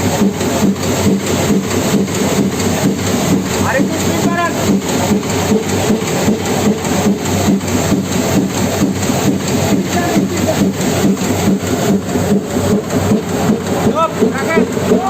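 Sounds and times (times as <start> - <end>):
printing press running: 0.0 - 15.0
rapid rhythmic knocking: 0.0 - 15.0.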